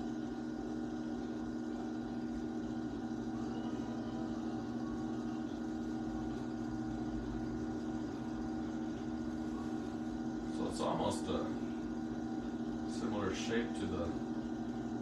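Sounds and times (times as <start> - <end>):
pottery wheel motor humming: 0.0 - 15.0.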